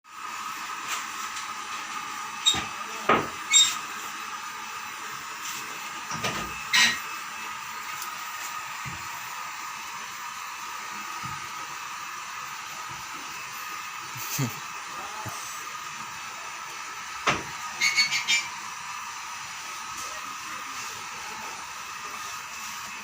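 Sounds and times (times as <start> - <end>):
hair dryer running: 0.1 - 23.0.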